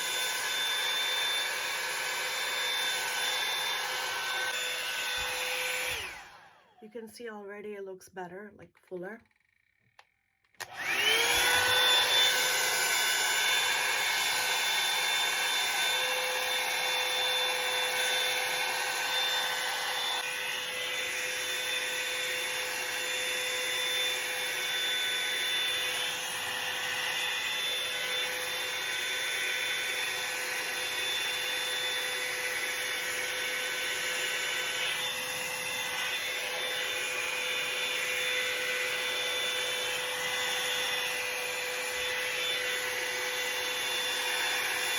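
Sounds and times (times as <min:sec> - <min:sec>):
hair dryer brush motor whine: 0:00.0 - 0:07.1, 0:09.4 - 0:44.9.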